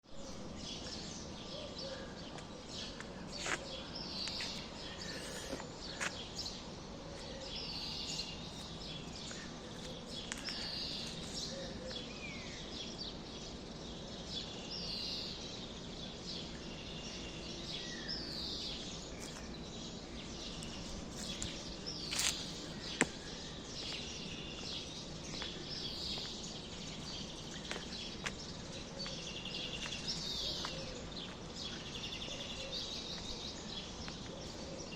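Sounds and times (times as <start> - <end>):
small birds chirping: 0.0 - 34.9
steady background hum: 0.2 - 34.9.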